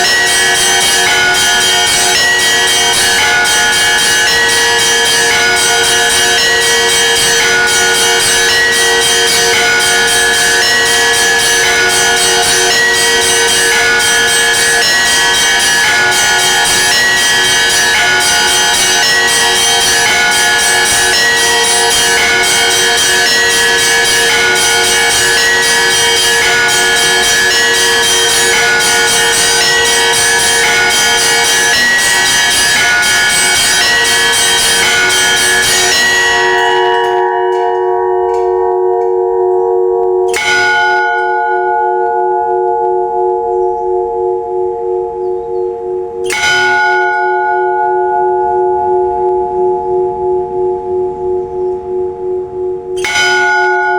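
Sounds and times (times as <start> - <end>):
low bell ringing: 0.0 - 53.9
small high bells striking: 0.0 - 53.9.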